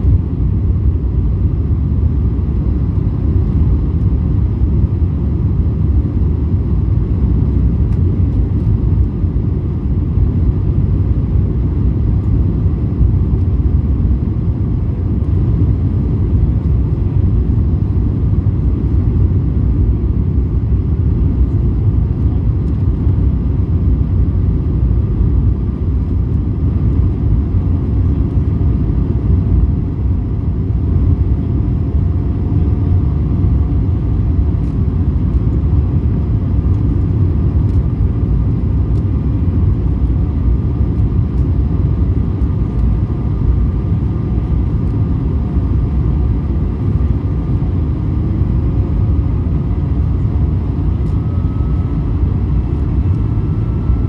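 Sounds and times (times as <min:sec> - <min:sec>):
aircraft cabin engine rumble: 0:00.0 - 0:54.0
faint steady whine: 0:00.0 - 0:54.0.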